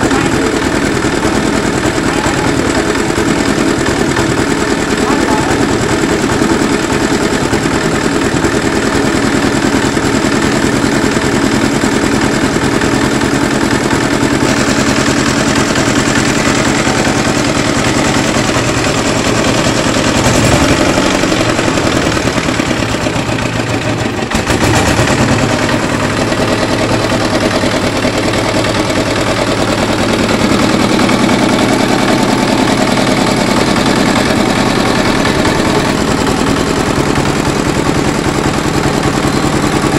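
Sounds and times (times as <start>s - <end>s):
small engine clattering: 0.0s - 39.9s.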